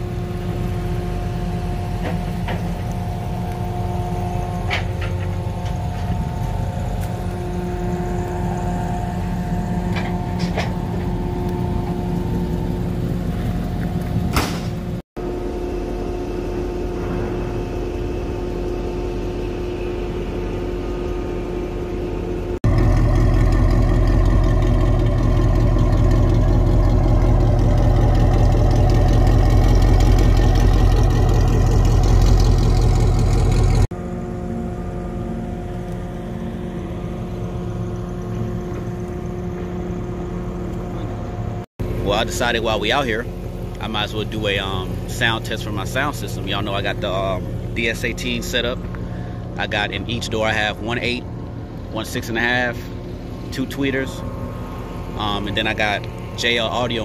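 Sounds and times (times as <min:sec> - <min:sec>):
car engine idling: 0:00.0 - 0:57.0
deep engine idle rumble: 0:00.0 - 0:57.0.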